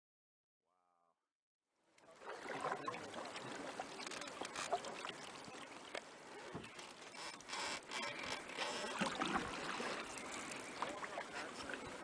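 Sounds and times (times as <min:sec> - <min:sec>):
paddle splashing water: 0:02.0 - 0:12.0.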